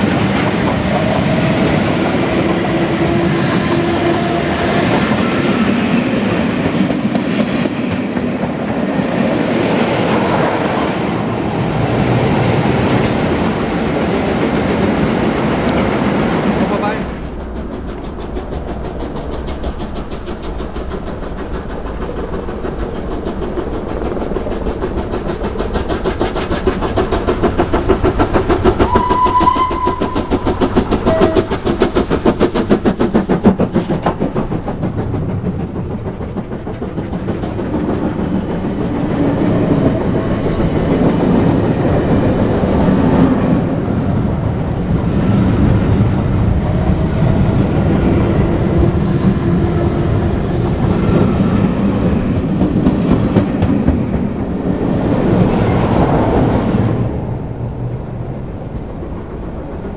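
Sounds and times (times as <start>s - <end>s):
steam locomotive chuffing: 0.0s - 59.9s
train coaches rumbling past: 0.0s - 59.9s.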